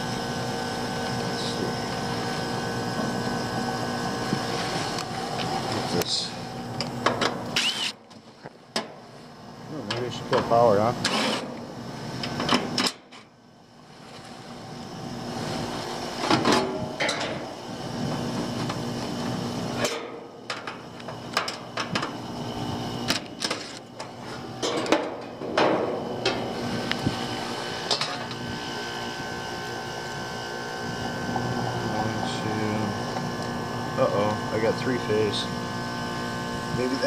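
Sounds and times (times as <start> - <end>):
air conditioner humming: 0.0 - 37.0.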